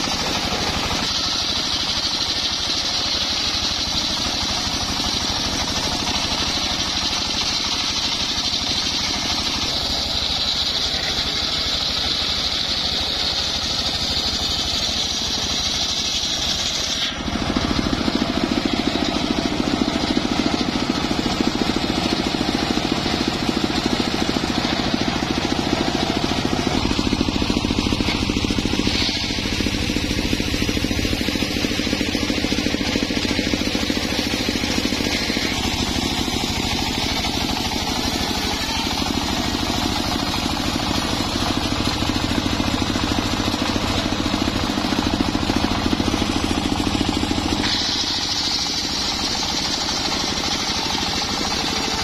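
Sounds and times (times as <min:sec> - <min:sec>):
circular saw cutting wood: 0:00.0 - 0:52.0
engine running: 0:00.0 - 0:52.0.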